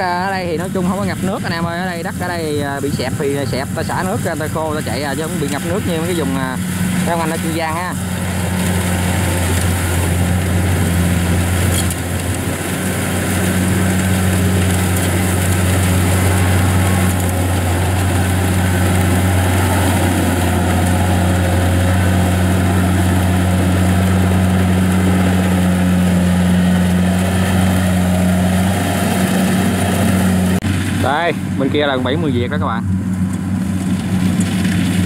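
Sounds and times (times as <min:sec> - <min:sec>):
combine harvester diesel engine: 0:00.0 - 0:35.0.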